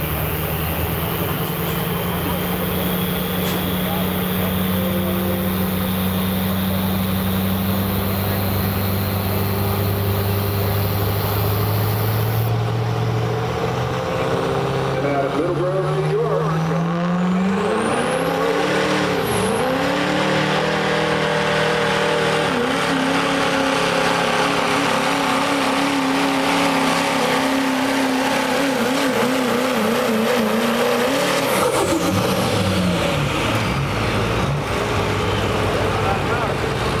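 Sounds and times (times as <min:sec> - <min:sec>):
diesel truck engine at full throttle: 0:00.0 - 0:37.0.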